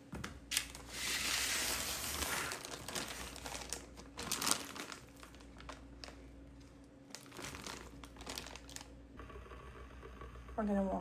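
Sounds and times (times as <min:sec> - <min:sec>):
crinkling and rustling handling noise: 0:00.0 - 0:09.0
faint steady hum: 0:00.0 - 0:11.0.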